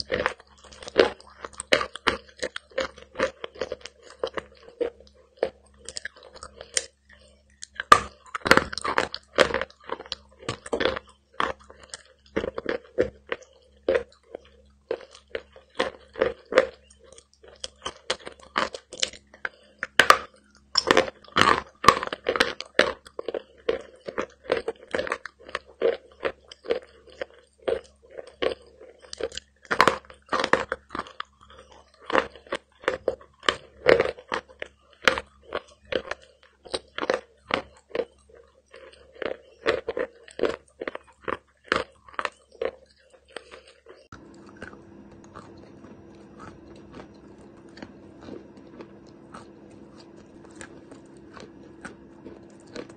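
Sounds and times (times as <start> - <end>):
chewing chalk crunches: 0.0 - 52.9.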